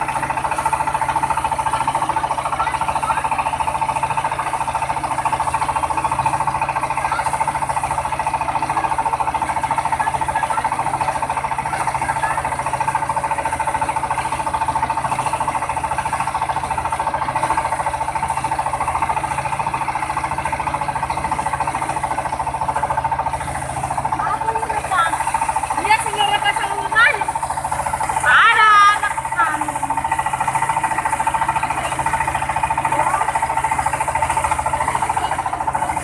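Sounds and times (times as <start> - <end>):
rice milling machine droning: 0.0 - 36.0.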